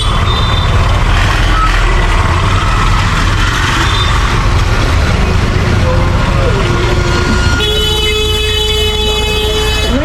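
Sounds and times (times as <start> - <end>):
traffic engines rumbling: 0.0 - 10.0.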